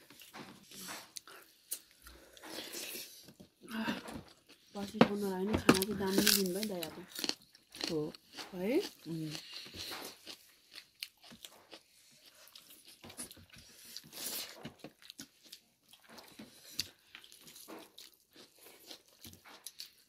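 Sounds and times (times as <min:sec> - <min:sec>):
people chewing and crunching: 0:00.0 - 0:20.0.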